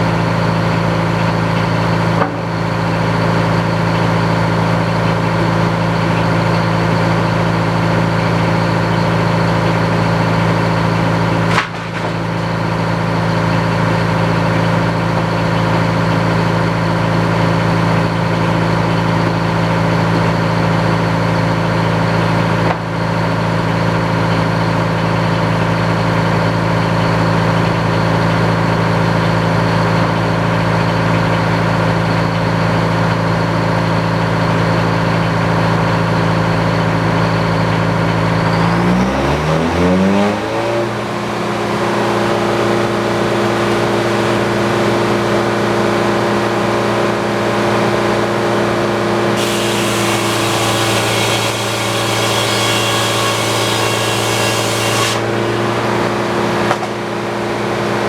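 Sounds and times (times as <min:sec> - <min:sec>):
sawmill engine drone: 0:00.0 - 0:58.0.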